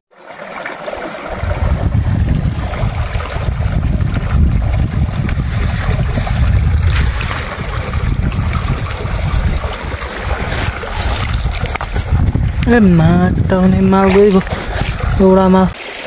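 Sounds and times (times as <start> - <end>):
wind buffeting microphone: 1.3 - 15.8.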